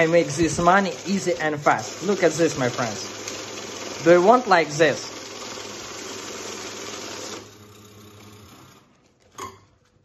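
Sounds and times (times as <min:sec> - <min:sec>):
banknote counting machine running: 0:00.0 - 0:08.8.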